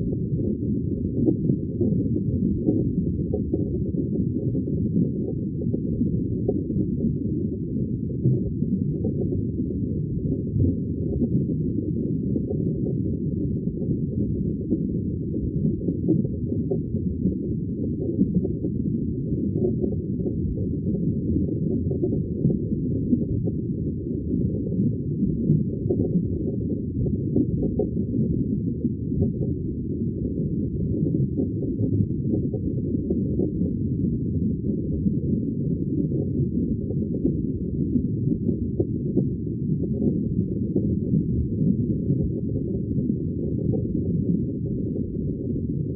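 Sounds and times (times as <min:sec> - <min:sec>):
muffled aquarium bubbling: 0:00.0 - 0:45.9.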